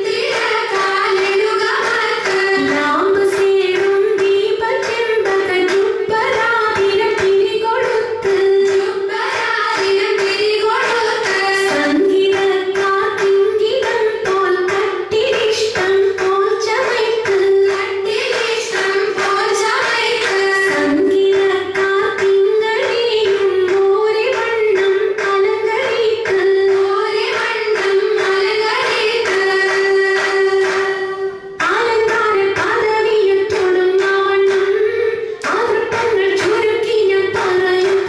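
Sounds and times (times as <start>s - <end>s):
rhythmic handclapping: 0.0s - 38.0s
women singing: 0.0s - 38.0s.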